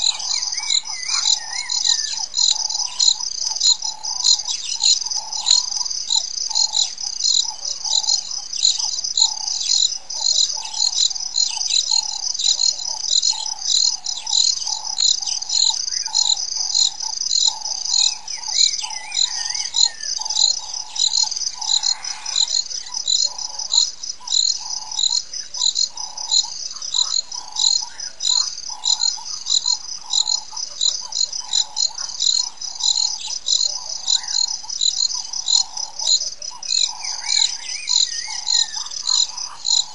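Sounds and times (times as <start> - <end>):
bird chirps: 0.0 - 39.9
insects chirping: 0.0 - 39.9
lower pulsing insect call: 0.0 - 39.9.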